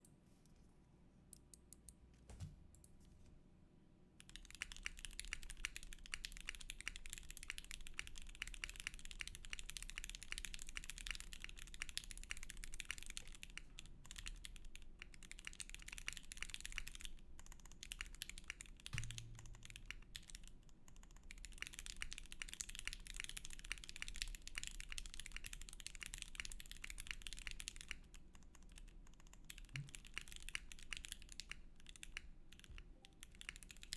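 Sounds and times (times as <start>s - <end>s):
mechanical keyboard typing: 4.2s - 33.9s.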